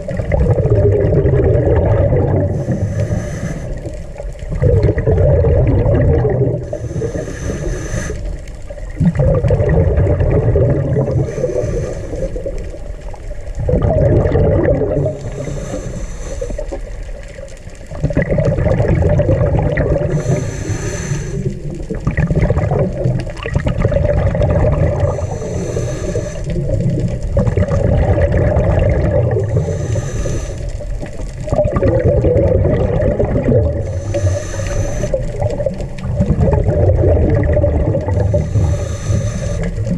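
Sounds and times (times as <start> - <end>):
water gurgling and bubbling: 0.0 - 39.9.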